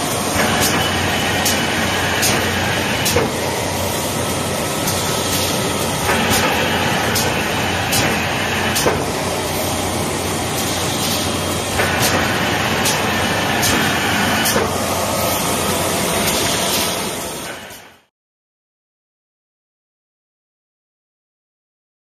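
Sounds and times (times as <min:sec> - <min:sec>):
higher-pitched machine run: 0:00.0 - 0:18.0
steady machine noise: 0:00.0 - 0:18.1.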